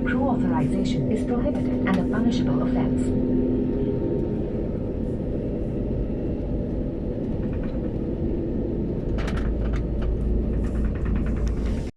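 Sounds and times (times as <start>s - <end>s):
airliner cabin rumble: 0.0s - 11.9s.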